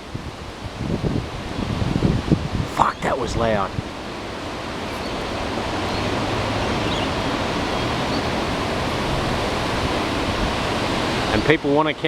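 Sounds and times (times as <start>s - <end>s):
gusty wind through trees: 0.0s - 12.0s.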